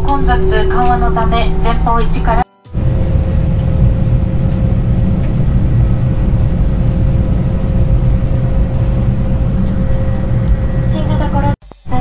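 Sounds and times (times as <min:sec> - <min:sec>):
airliner cabin low rumble: 0:00.0 - 0:11.6
mid-pitched hum: 0:00.0 - 0:12.0.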